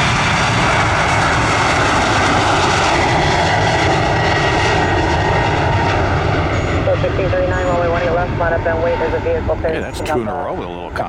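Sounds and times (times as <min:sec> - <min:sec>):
jet airliner taking off: 0:00.0 - 0:11.0.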